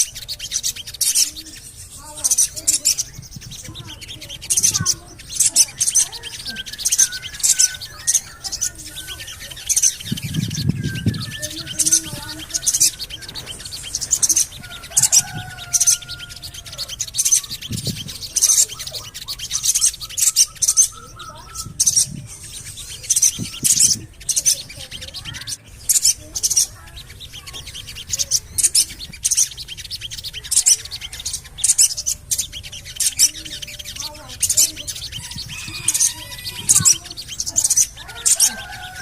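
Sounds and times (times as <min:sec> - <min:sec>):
bird high-pitched chirps: 0:00.0 - 0:39.0
thin whistled bird notes: 0:00.0 - 0:39.0.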